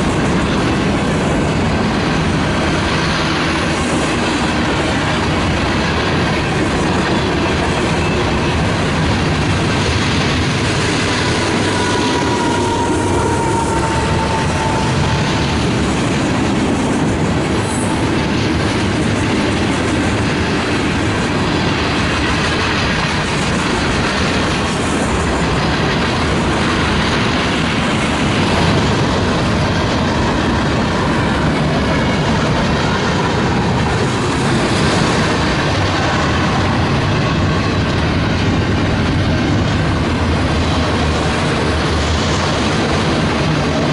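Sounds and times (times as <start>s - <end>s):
freight train rolling past: 0.0s - 43.9s.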